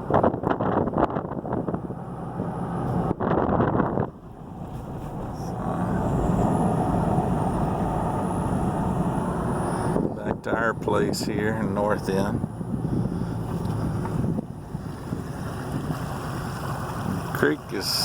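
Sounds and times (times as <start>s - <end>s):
vehicle engine and tyre rumble: 0.0s - 18.0s.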